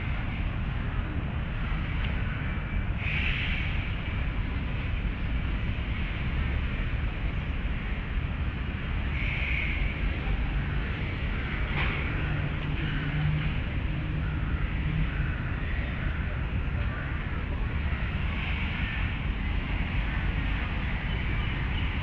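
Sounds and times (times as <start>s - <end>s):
distant traffic: 0.0s - 22.0s.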